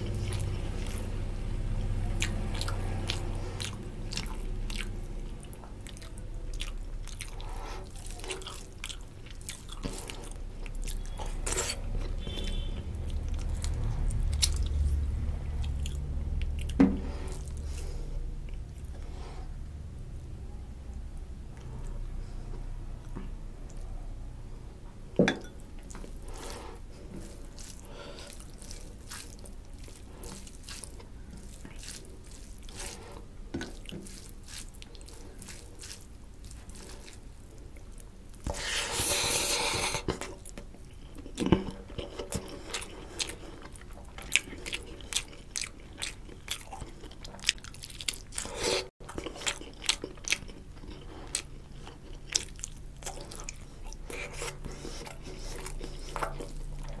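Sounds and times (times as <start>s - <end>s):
wet chewing: 2.1s - 19.1s, 25.8s - 57.0s.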